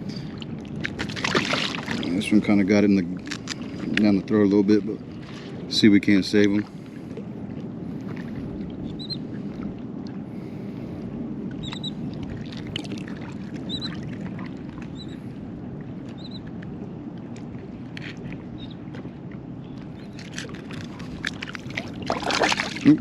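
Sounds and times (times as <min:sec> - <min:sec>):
shallow water moving: 0:00.0 - 0:23.0.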